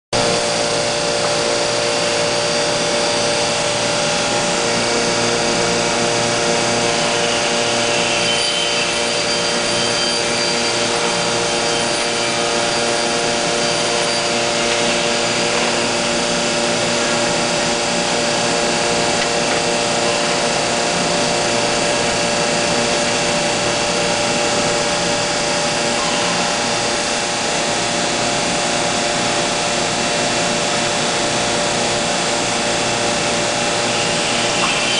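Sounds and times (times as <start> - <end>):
cnc spindle whine: 0.2 - 34.9.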